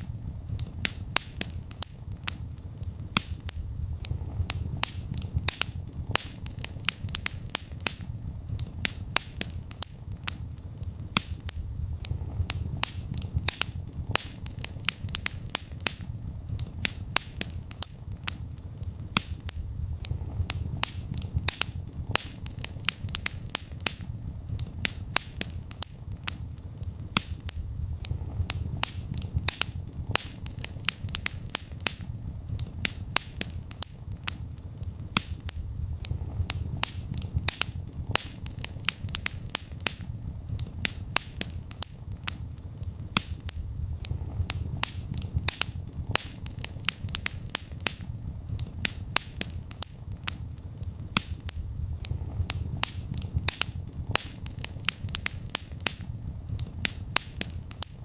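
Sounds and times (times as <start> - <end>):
fire crackles and pops: 0.0 - 58.0
low rumble of flames: 0.0 - 58.0.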